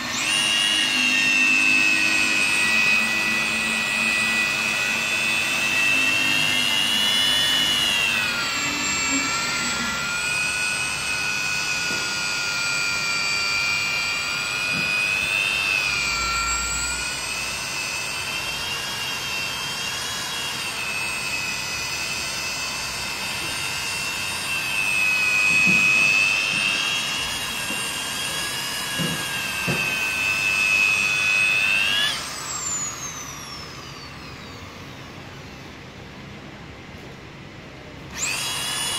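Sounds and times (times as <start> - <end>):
electric polisher motor whining: 0.0 - 35.8, 38.1 - 38.9.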